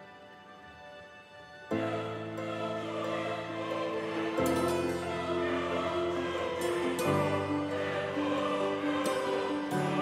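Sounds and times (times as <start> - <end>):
music with long held chords: 0.0 - 10.0.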